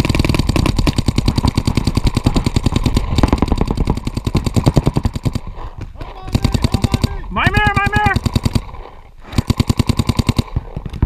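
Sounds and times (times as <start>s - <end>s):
paintball marker firing rapidly: 0.0s - 11.0s.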